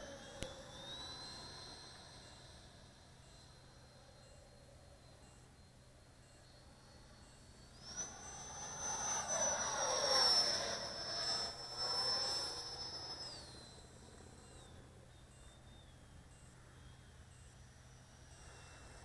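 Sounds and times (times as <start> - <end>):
model jet fan whine: 0.0 - 19.0.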